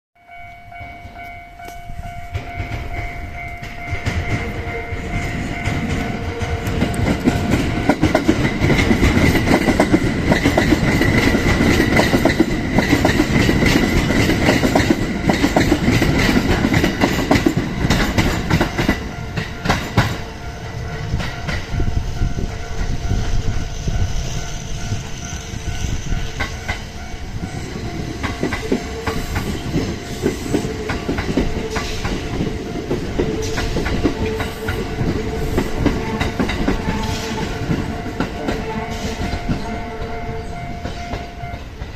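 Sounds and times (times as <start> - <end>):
level crossing warning bell: 0.2 - 41.9
train wheels clattering: 1.0 - 41.9.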